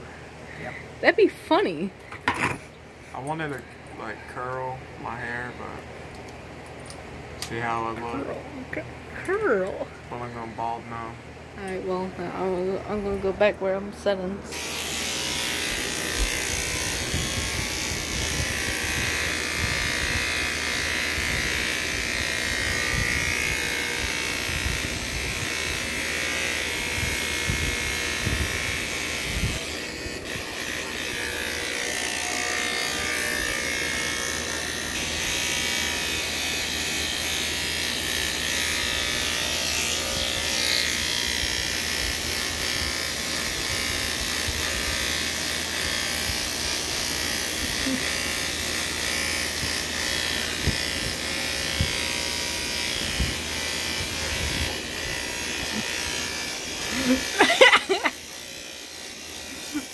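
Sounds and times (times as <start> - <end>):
hair clippers buzzing: 0.0 - 13.5, 14.2 - 59.9.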